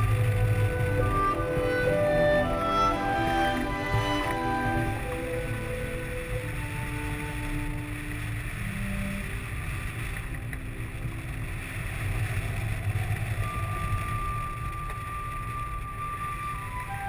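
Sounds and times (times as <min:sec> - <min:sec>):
faint held music notes: 0:00.0 - 0:17.0
wind buffeting microphone: 0:00.0 - 0:17.0.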